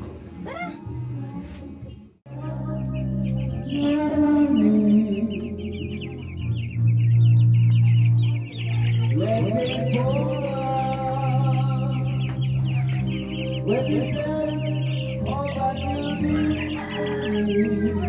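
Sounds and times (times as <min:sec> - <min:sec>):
background music: 0:00.0 - 0:18.0
chicks peeping: 0:00.0 - 0:18.0.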